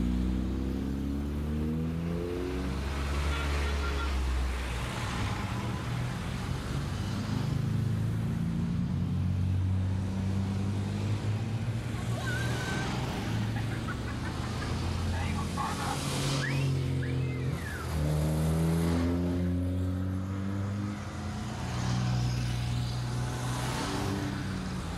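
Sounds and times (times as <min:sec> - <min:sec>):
cars driving past: 0:00.0 - 0:24.9
tyre and road noise: 0:00.0 - 0:24.9.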